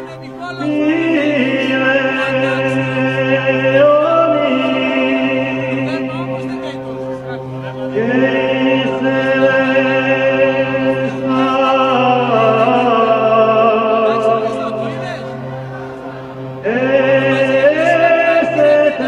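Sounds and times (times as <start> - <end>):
slow chant singing: 0.0 - 19.0
steady low drone: 0.0 - 19.0.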